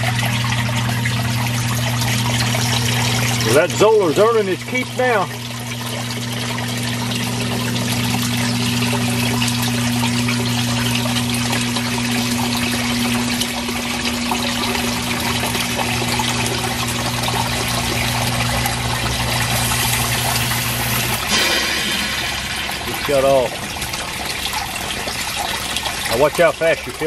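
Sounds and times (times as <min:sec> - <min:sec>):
pump motor hum: 0:00.0 - 0:27.0
rushing trickling water: 0:00.0 - 0:27.0.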